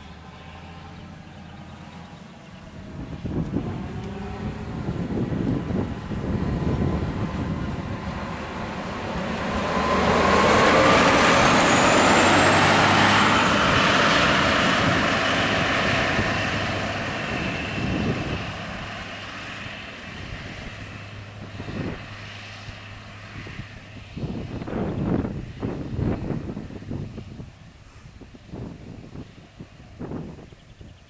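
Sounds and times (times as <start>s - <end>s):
diesel locomotive passing: 0.0s - 31.0s
rail rumble: 0.0s - 31.0s.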